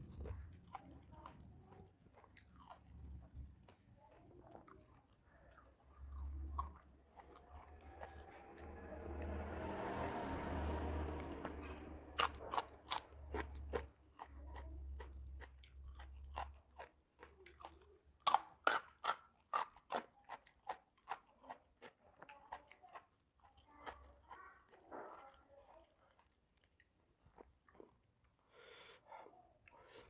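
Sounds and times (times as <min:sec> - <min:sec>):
crunchy chewing of raw vegetables: 0:00.0 - 0:30.0.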